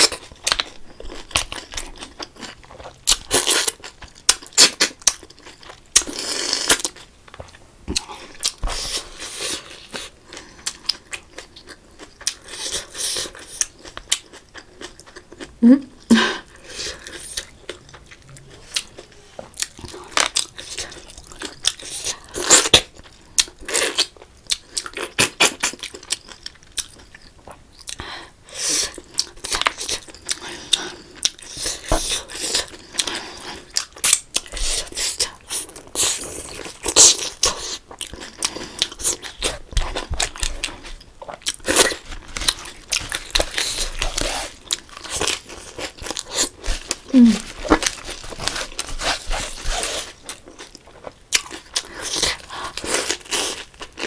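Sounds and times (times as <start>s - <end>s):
crunching and chewing food: 0.0s - 15.6s, 16.4s - 54.0s.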